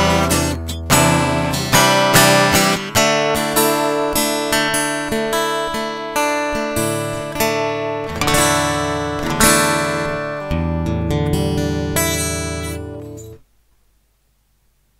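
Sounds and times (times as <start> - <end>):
acoustic guitar strumming chords: 0.0 - 13.4.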